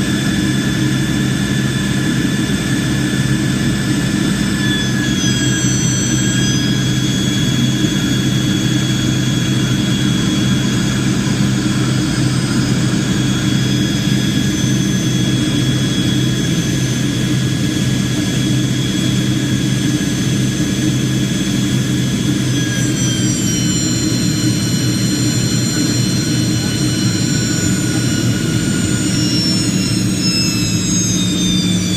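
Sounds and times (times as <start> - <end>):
high turbine whines: 0.0 - 31.9
jet engines rumbling: 0.0 - 31.9.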